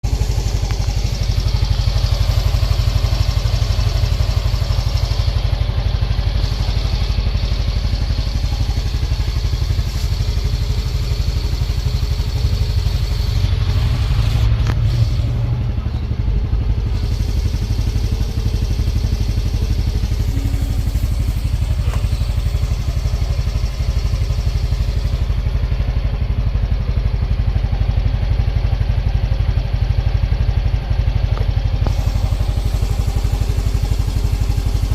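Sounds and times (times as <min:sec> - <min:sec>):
scooter engine running: 0:00.0 - 0:34.9.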